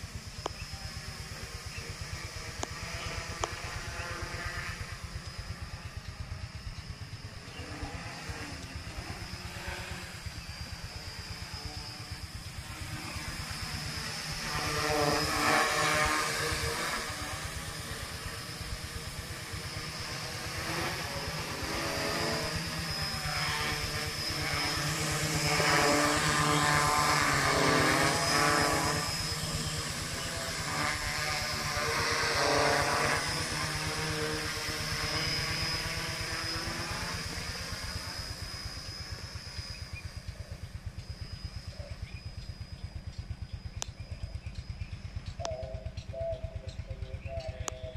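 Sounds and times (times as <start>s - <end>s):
drone propellers buzzing: 0.0s - 47.9s.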